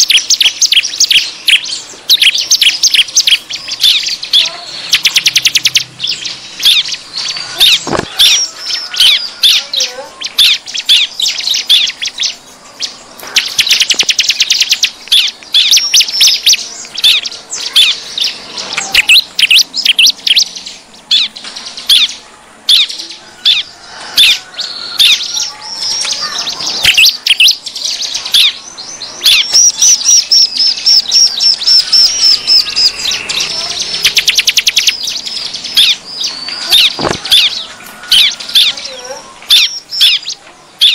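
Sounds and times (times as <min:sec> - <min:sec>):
birds chattering loudly: 0:00.0 - 0:40.9
fast rattling bird trills: 0:00.0 - 0:40.9.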